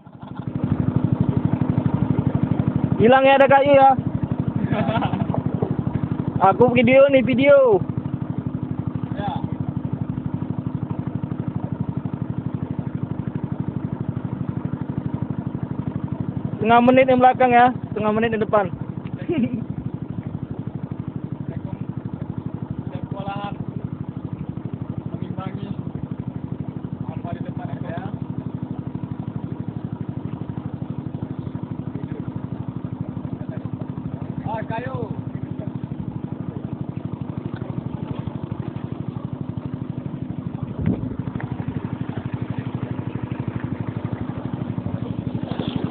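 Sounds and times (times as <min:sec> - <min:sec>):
boat engine chugging: 0:00.0 - 0:45.9.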